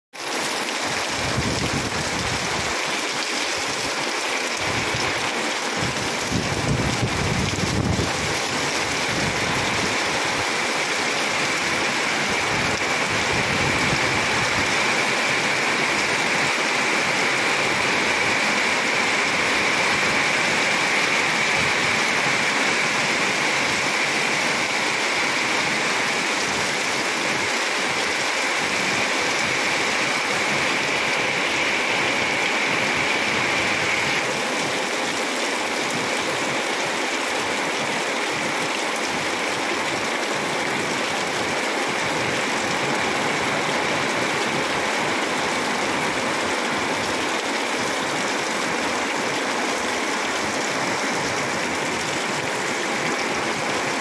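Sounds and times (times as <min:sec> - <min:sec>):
heavy rain: 0:00.1 - 0:54.0.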